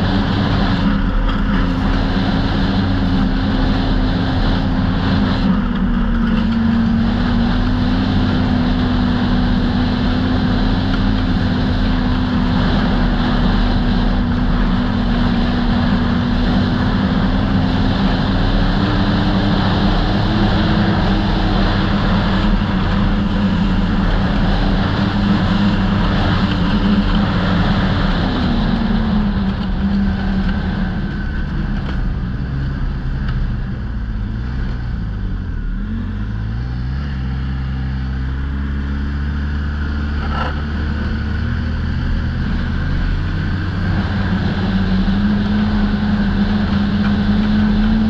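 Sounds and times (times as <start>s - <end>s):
snowmobile engine cruising: 0.0s - 48.0s
track noise: 0.0s - 48.0s.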